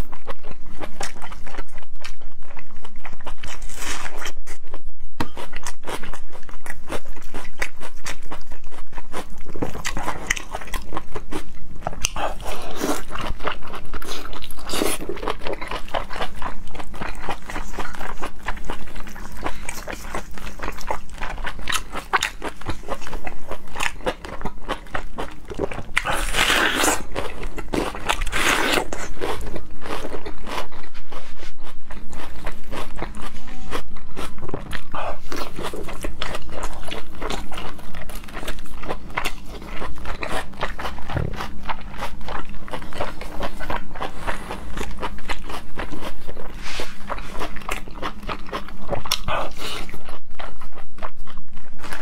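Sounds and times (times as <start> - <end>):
chewing: 0.0 - 52.0
crunching raw onion: 0.0 - 52.0.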